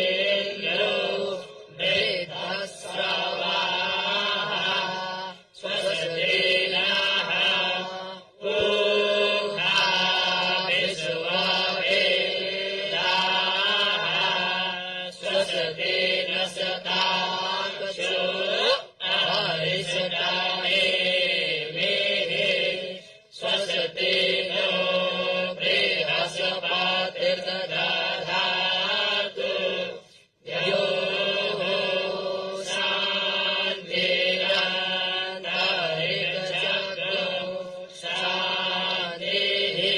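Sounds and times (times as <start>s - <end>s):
group chanting in unison: 0.0s - 39.9s.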